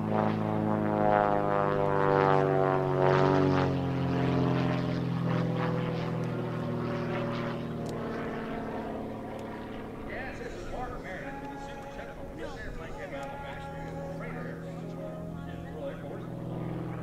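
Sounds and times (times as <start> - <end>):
plane engine and propeller droning: 0.0 - 17.0.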